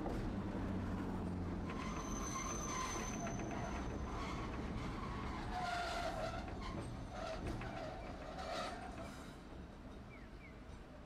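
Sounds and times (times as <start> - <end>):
streetcar rumbling on rails: 0.0 - 11.0.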